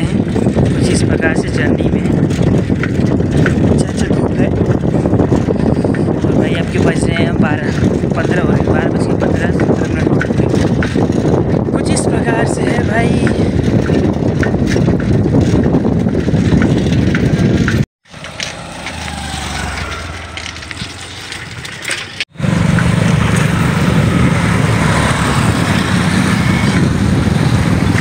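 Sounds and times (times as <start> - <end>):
wind noise on microphone: 0.0 - 18.5, 19.2 - 28.0
motorcycle engine running: 0.0 - 28.0.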